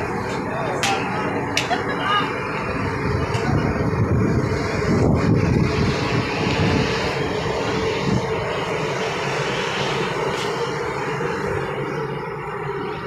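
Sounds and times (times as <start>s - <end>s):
ship machinery drone: 0.0s - 13.0s
steady hum: 0.0s - 13.0s
wind on deck: 0.0s - 13.0s.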